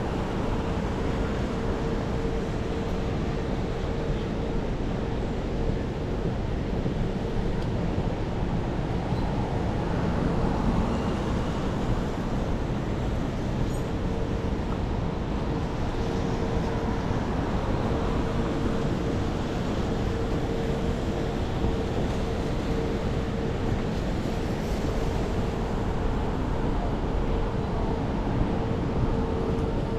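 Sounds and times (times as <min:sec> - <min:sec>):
subway train rumbling: 0:00.0 - 0:29.9.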